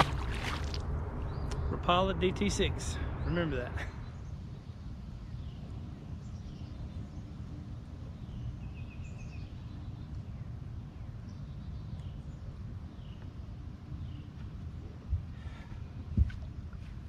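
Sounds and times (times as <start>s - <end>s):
faint hum: 0.0s - 17.0s
songbird chirps: 0.0s - 17.0s.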